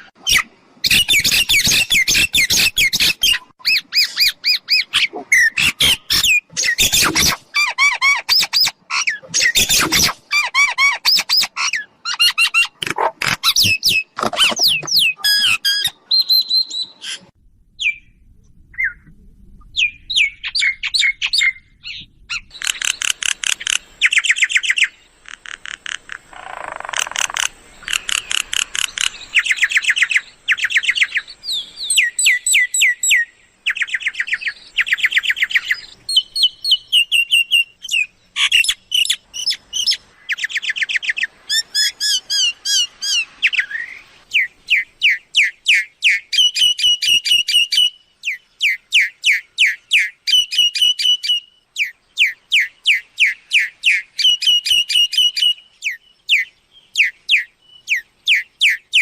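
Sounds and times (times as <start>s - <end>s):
mynas calling: 0.0s - 18.0s, 19.8s - 56.4s.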